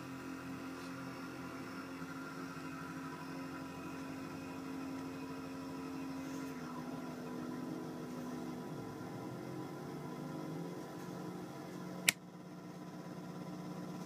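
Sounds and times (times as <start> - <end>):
buzzy electronic drone: 0.0 - 11.6.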